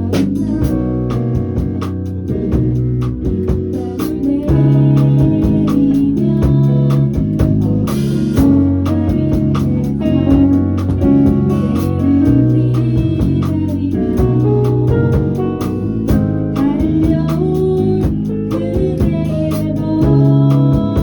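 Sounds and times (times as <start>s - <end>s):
band playing a song: 0.0s - 21.0s.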